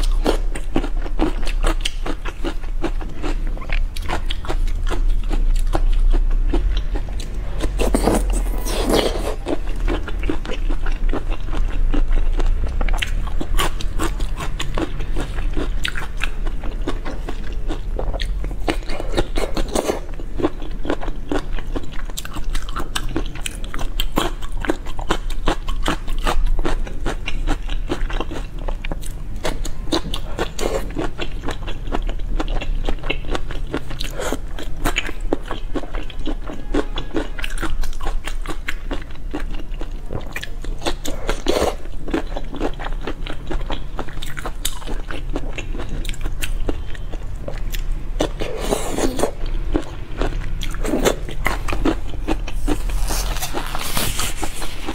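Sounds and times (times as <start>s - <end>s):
chewing and biting shrimp: 0.0s - 54.9s.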